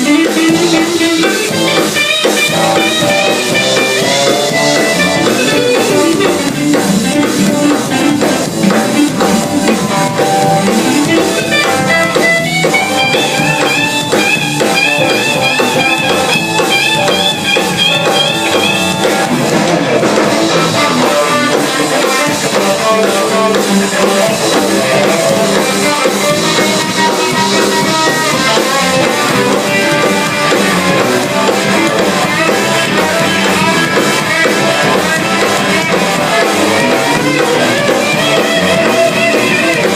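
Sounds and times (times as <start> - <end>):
drum kit steady beat: 0.0 - 39.9
electric guitar lines: 0.0 - 39.9
high guitar figure: 0.0 - 39.9.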